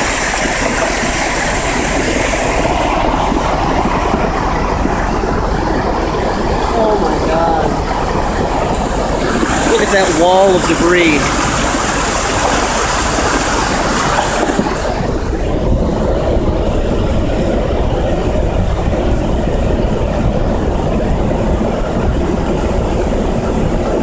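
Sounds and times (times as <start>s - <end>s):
flood water rushing: 0.0s - 24.0s.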